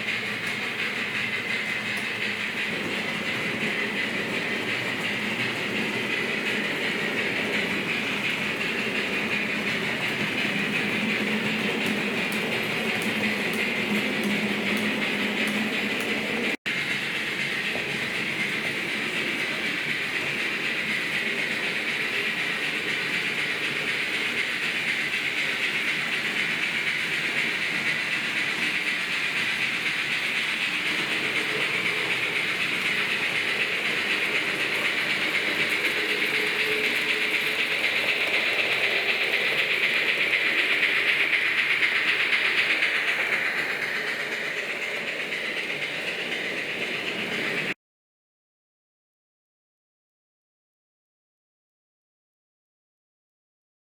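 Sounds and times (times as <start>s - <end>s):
model train motor noise: 0.0s - 47.8s
model train wheels rattling on track: 0.0s - 47.8s.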